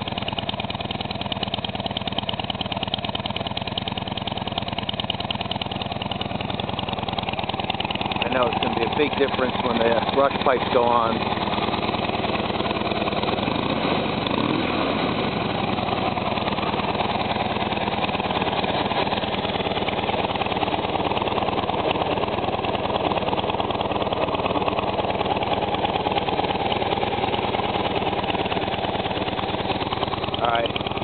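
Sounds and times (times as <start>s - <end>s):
motorcycle engine running steadily: 0.0s - 31.0s.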